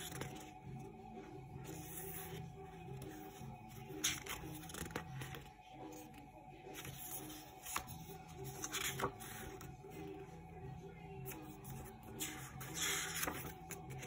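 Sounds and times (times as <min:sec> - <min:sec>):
quiet background music: 0:00.0 - 0:14.0
glossy paper pages rustling: 0:01.6 - 0:10.1, 0:11.2 - 0:14.0.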